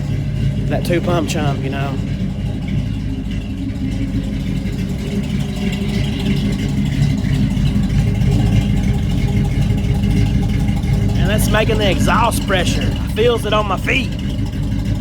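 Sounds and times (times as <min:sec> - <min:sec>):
low steady exhaust: 0:00.0 - 0:15.0
truck engine idling loudly: 0:00.0 - 0:15.0.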